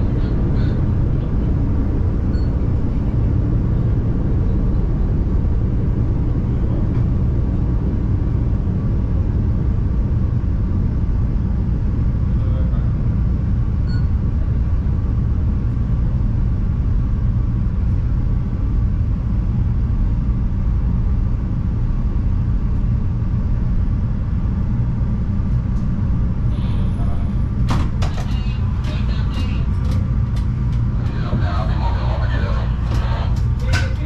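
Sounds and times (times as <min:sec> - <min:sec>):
train wheels rumbling on track: 0:00.0 - 0:34.0.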